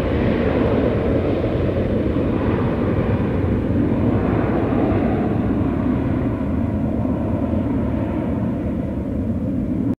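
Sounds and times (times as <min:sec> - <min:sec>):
jet engines rumbling: 0:00.0 - 0:10.0
wind noise: 0:00.0 - 0:10.0.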